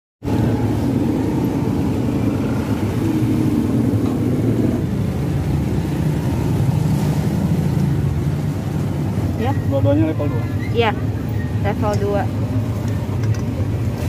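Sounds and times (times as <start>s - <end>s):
traffic rumble: 0.2s - 14.0s.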